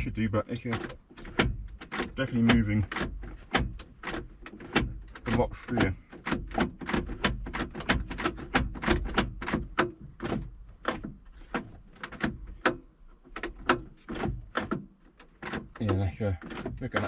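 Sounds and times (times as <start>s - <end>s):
car door lock clicking: 0.6s - 17.0s.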